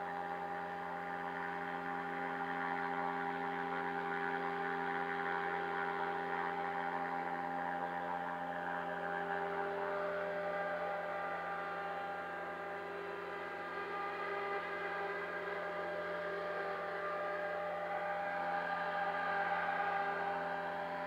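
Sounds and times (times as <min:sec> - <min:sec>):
electric propeller motors humming: 0:00.0 - 0:21.0.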